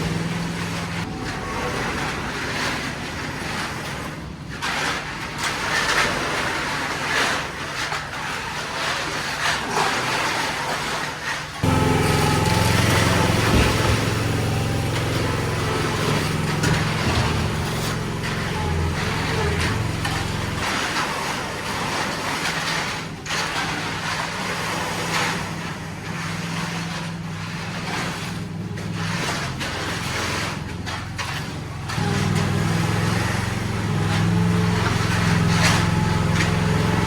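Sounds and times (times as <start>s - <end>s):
engine droning: 0.0s - 4.4s, 11.6s - 37.0s.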